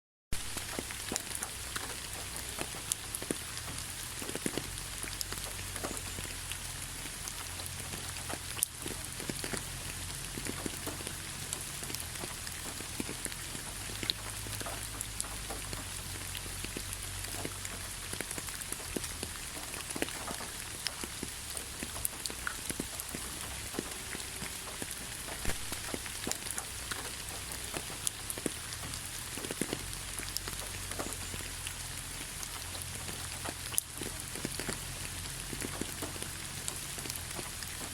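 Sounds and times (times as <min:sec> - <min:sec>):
rain hissing: 0:00.3 - 0:37.9
raindrops ticking on a surface: 0:00.3 - 0:37.9.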